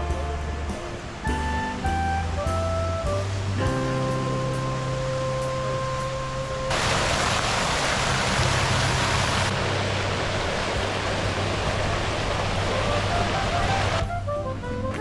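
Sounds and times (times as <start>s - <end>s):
faint musical notes: 0.0s - 6.8s, 8.3s - 15.0s
fountain water splashing: 0.0s - 14.9s.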